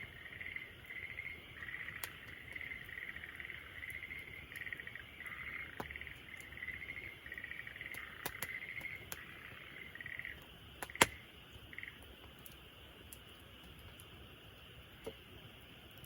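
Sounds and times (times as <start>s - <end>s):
insects chirping in trills: 0.0s - 16.0s
wood fire crackling: 0.0s - 16.0s.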